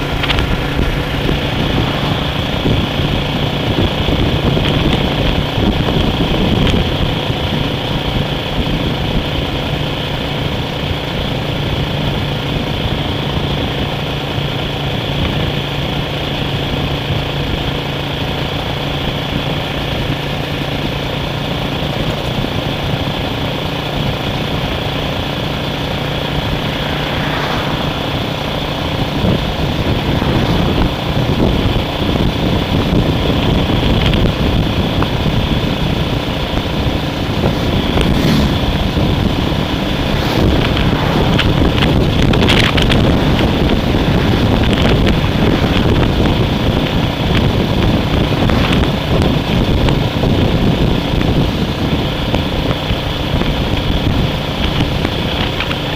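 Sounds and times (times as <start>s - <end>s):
road noise: 0.0s - 55.9s
vehicle engine hum: 0.0s - 55.9s.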